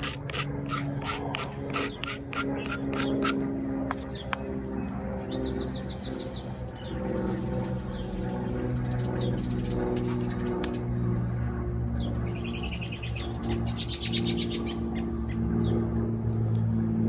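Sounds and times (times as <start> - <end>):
rapid bird trills: 0.0 - 11.0, 12.0 - 16.0
low drone of sustained tones: 0.0 - 17.0
songbirds chirping: 0.5 - 16.7.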